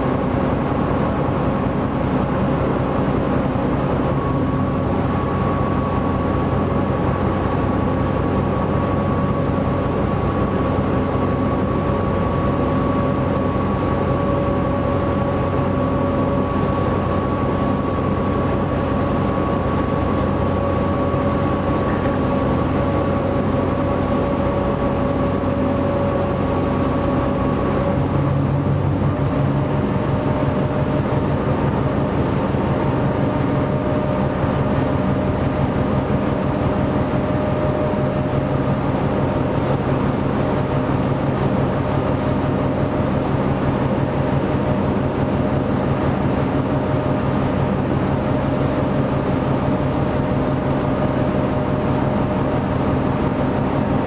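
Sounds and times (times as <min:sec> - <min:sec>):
ship engine droning: 0:00.0 - 0:54.0.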